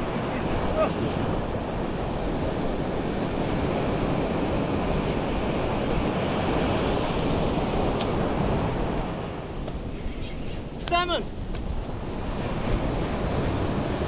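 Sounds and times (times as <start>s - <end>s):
surf breaking on beach: 0.0s - 14.0s
wind on microphone: 0.0s - 14.0s.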